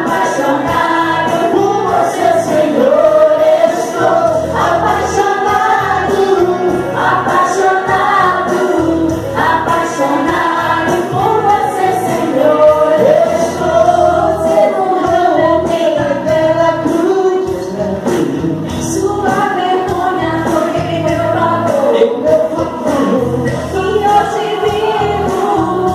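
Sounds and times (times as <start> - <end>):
group singing gospel music: 0.0 - 25.9.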